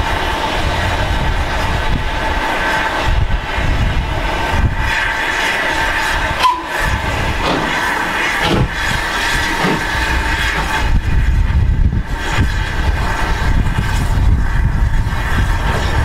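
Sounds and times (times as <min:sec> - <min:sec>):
steam hissing: 0:00.0 - 0:16.0
steam locomotive exhaust beats: 0:00.0 - 0:16.0.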